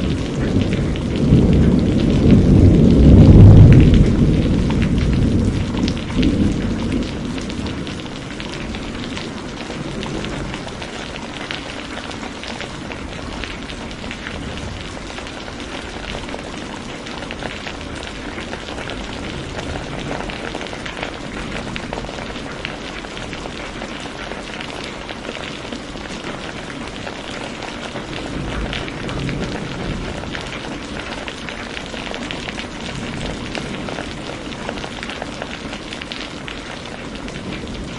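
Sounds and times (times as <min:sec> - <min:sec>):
rain pattering: 0:00.0 - 0:37.9
thunder rumbling: 0:00.0 - 0:37.9.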